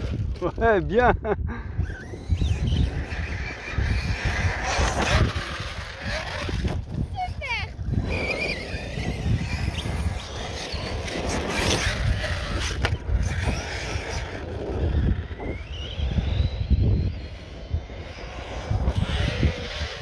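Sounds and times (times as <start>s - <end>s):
wind buffeting microphone: 0.0s - 20.0s
electric motor whining: 1.7s - 20.0s.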